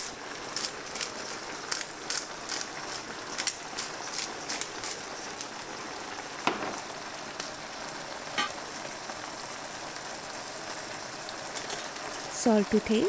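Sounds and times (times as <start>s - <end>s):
sauce sizzling in a pan: 0.0s - 13.0s.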